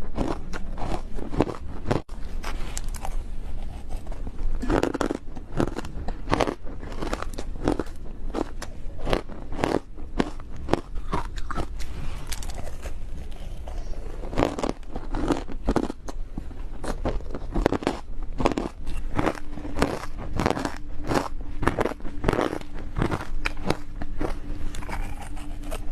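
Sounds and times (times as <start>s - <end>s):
ice being bitten and chewed: 0.0s - 16.2s, 16.8s - 25.9s.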